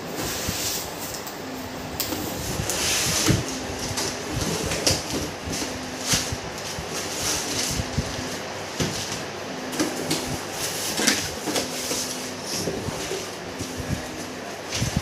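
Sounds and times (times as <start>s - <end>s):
packaging rustling and scraping: 2.1s - 15.0s.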